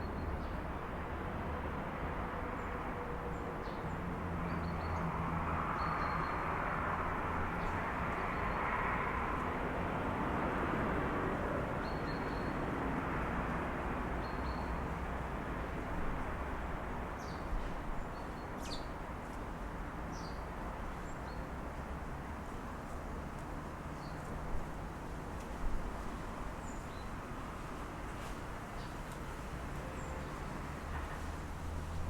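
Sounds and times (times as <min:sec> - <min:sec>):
city traffic noise: 0:00.0 - 0:32.0.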